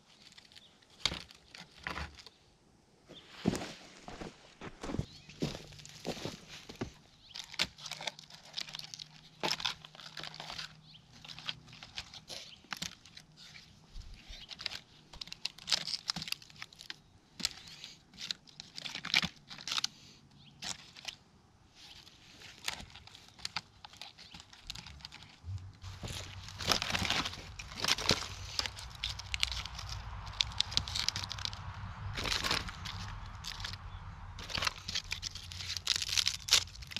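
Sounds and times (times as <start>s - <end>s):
dry material rustling and crackling: 5.0s - 20.0s, 20.6s - 36.9s.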